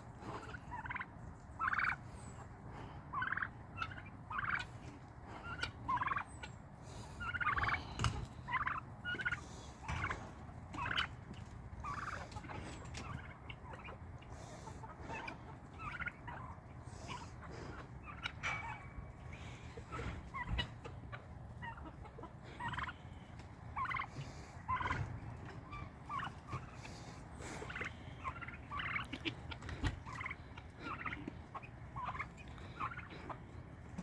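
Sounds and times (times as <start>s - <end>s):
turkeys gobbling: 0.0s - 34.0s.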